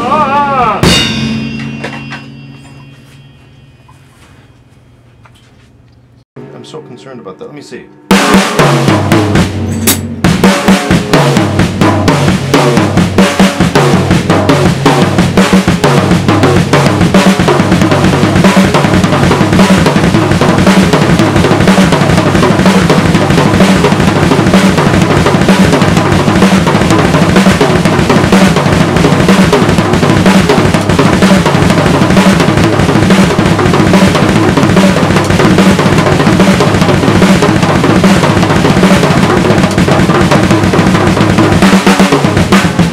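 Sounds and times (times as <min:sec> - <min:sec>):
cymbals: 0:00.0 - 0:05.0, 0:06.4 - 0:42.9
drum kit played with sticks: 0:00.0 - 0:05.2, 0:06.4 - 0:42.9.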